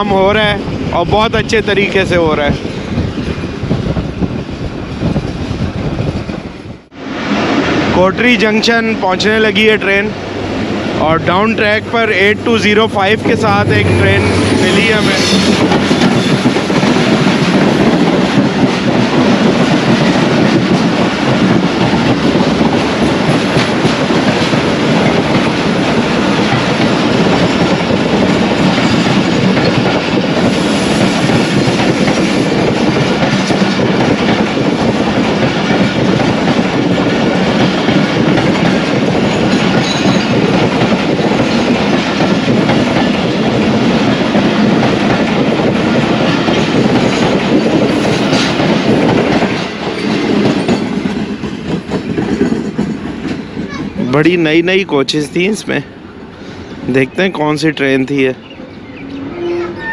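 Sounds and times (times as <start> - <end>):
train wheels on track: 0.0 - 59.9.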